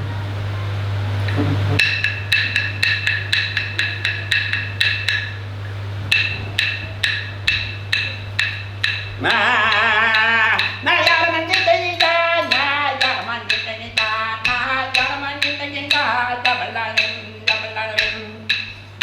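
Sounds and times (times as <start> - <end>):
wooden clapsticks striking: 1.3 - 5.4, 6.1 - 18.8.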